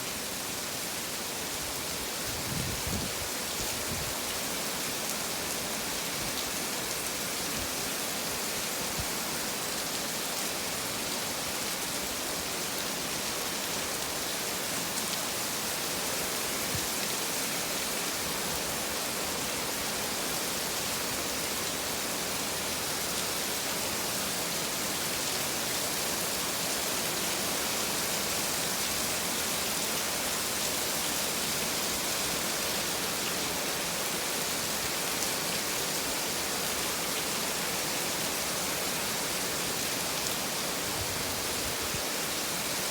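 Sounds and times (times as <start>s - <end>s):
heavy rain hiss: 0.0s - 42.9s.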